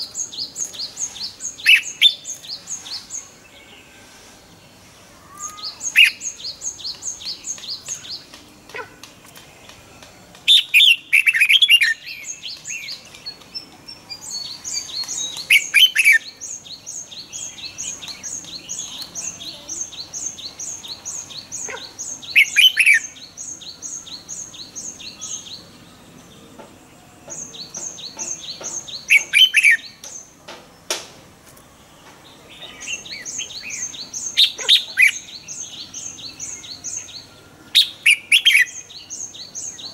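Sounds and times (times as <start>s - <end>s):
bird singing warbling phrases: 0.0s - 4.1s, 5.1s - 9.7s, 10.5s - 26.5s, 27.3s - 30.4s, 32.4s - 39.9s.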